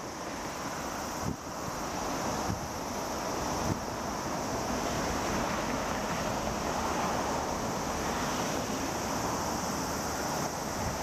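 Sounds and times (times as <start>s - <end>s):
road traffic roar: 0.0s - 11.0s
steady high hiss: 0.0s - 11.0s.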